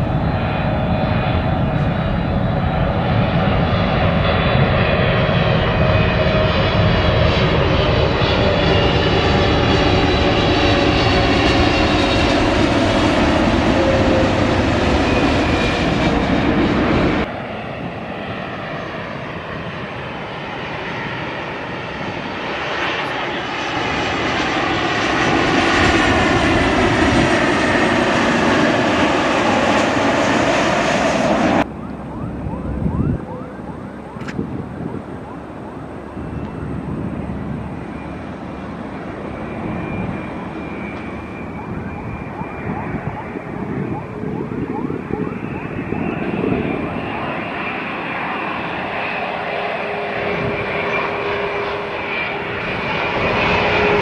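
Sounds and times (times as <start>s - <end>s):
jet engine noise: 0.0s - 54.0s
jet engine whine: 0.0s - 54.0s.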